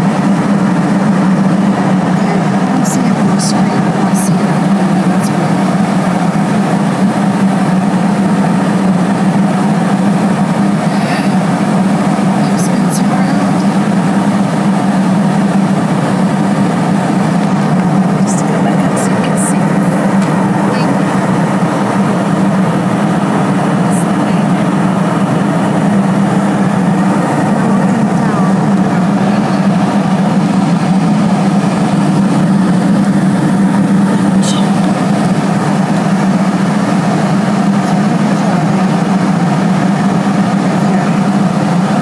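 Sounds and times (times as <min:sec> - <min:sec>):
airliner cabin engine noise: 0:00.0 - 0:42.0.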